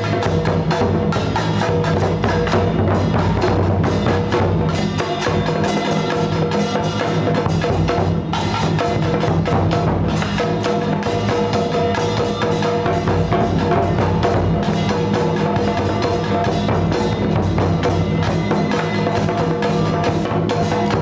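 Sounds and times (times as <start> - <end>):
drum strikes: 0.0 - 21.0.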